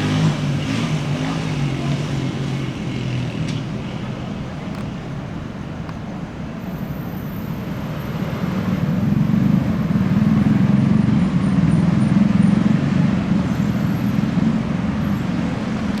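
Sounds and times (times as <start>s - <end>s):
motor vehicle rumble: 0.0s - 16.0s.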